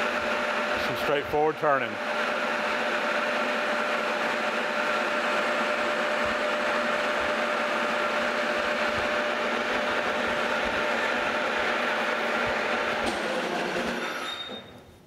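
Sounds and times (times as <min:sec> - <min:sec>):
metal lathe cutting: 0:00.0 - 0:01.0, 0:01.9 - 0:14.6.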